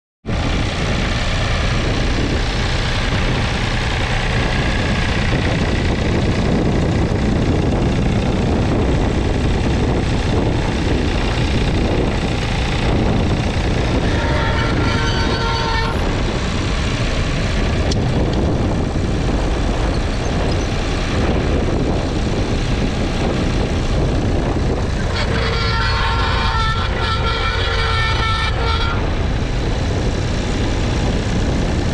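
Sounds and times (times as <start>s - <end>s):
tractor diesel engine under load: 0.2s - 31.9s.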